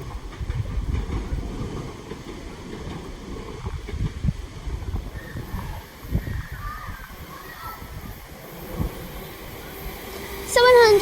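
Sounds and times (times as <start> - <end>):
trains running: 0.0 - 11.0
wind buffeting microphone: 0.0 - 11.0.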